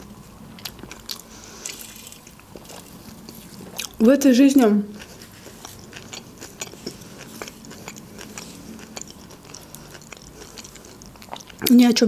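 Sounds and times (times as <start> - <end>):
wet chewing mouth clicks: 0.5 - 11.8.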